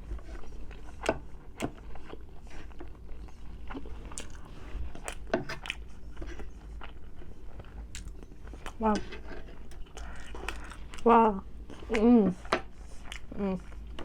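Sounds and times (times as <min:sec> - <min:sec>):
faint low hum: 0:00.0 - 0:14.0
person chewing food: 0:00.0 - 0:14.0.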